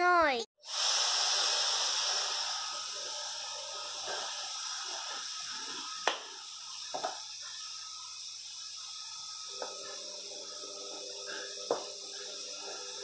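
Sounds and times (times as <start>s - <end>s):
oil hissing in a frying pan: 0.6s - 13.0s.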